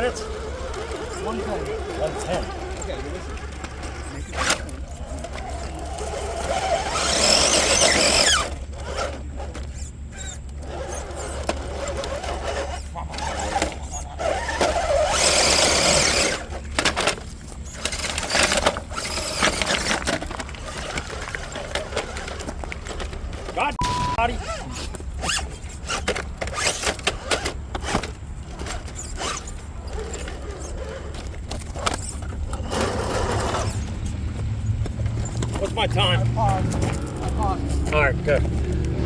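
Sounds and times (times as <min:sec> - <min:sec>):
toy truck motor whining: 0:00.0 - 0:34.1.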